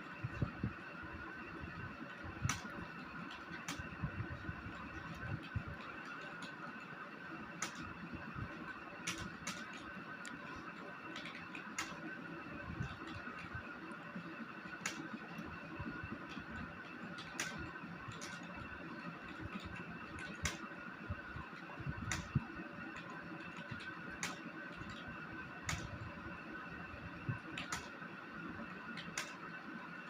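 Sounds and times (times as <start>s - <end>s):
steady background hum: 0.0s - 30.0s
computer keyboard keys clicking: 2.1s - 14.0s, 14.6s - 20.8s, 21.4s - 26.2s, 27.0s - 28.0s, 28.6s - 29.5s.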